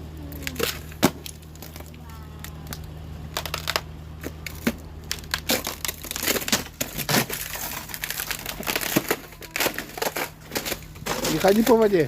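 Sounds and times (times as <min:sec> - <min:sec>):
thin ice crunching and cracking: 0:00.3 - 0:12.0.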